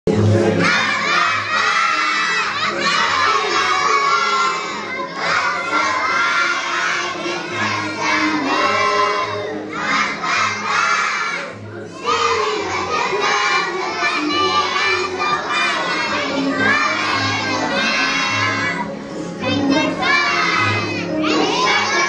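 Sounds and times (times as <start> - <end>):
children singing together: 0.1 - 22.0.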